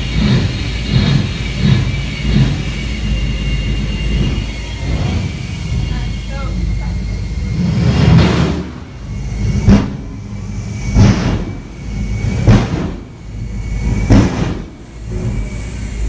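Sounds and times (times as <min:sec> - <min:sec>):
loud afterburner blasts: 0:00.0 - 0:15.6
turbine engine rumbling: 0:00.0 - 0:16.0.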